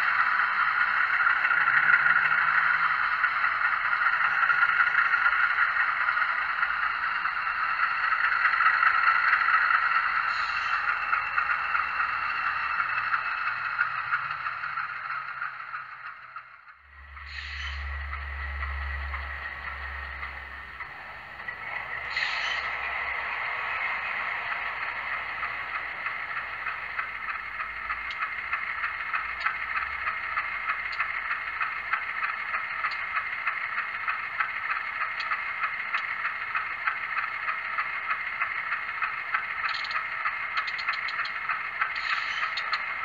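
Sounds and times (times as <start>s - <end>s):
model diesel engine idling from speaker: 0.0s - 43.0s.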